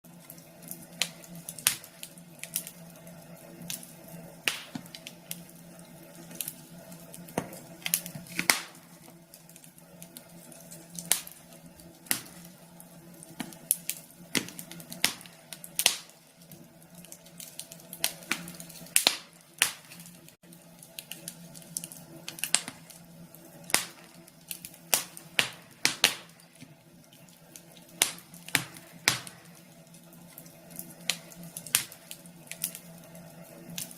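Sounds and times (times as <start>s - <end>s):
fireplace fire crackling: 0.0s - 33.9s
faint steady hum: 0.1s - 33.9s.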